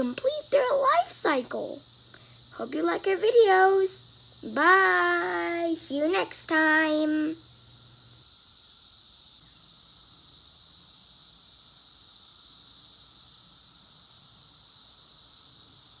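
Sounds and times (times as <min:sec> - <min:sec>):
cicadas chorus drone: 0:00.0 - 0:16.0.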